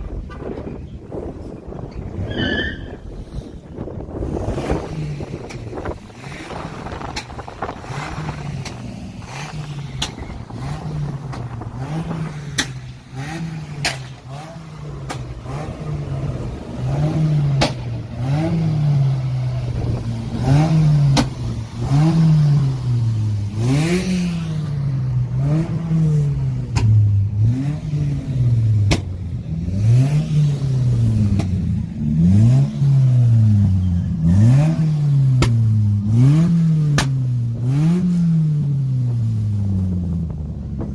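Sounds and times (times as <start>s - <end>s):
car engine revving: 1.2s - 40.9s
exhaust pops: 3.8s - 24.9s, 25.6s - 27.8s, 28.4s - 29.6s, 30.5s - 40.9s.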